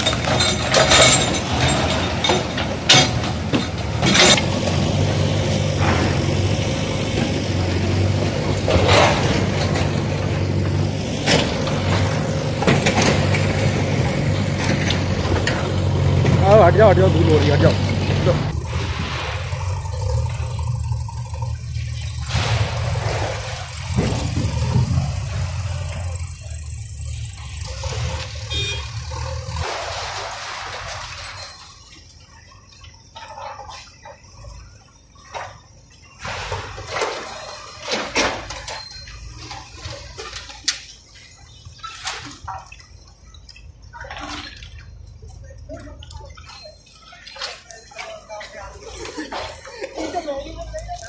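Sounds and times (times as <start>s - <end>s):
debris crunching and rattling: 0.0s - 51.0s
diesel engines rumbling: 0.0s - 51.0s.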